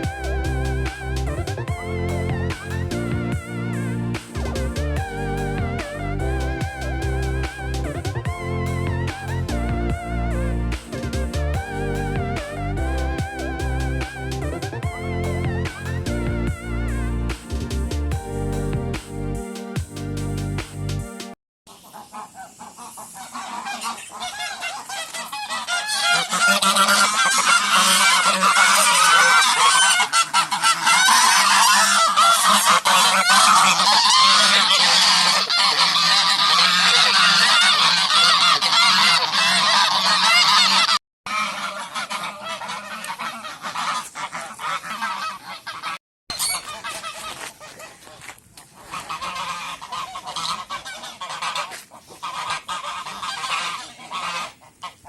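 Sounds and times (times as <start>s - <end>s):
geese honking: 0.0s - 18.0s, 21.7s - 55.0s.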